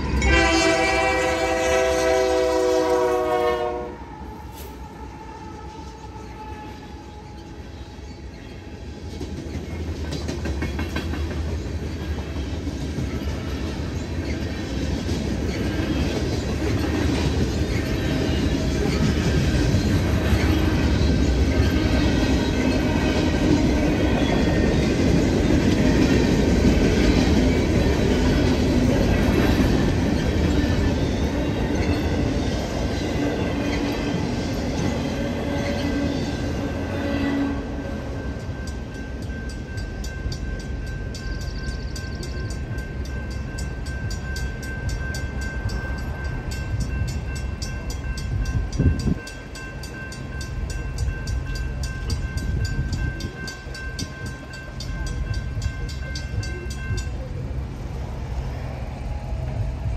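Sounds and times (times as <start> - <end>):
train heavy rumble: 0.0 - 59.9.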